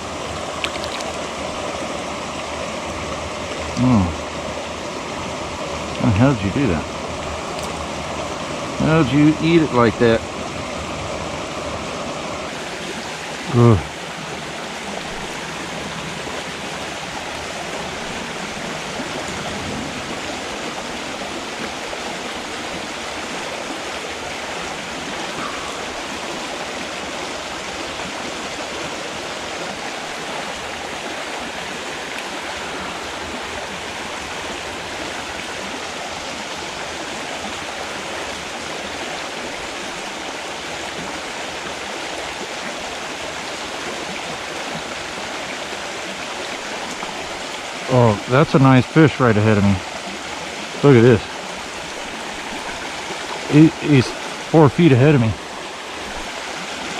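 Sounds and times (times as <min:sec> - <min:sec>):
creek water running: 0:00.0 - 0:56.9.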